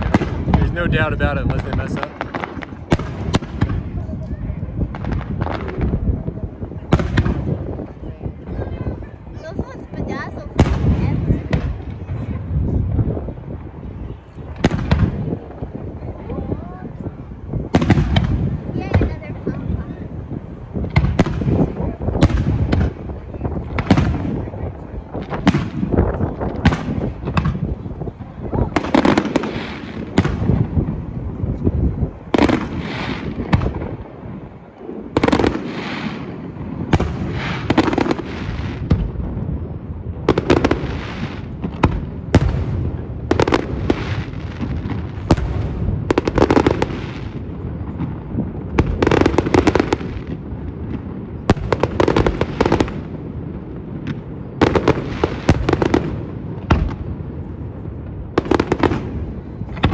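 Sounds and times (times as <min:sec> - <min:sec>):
deep rumble of booms: 0:00.0 - 0:59.9
fireworks bangs: 0:00.0 - 0:59.9.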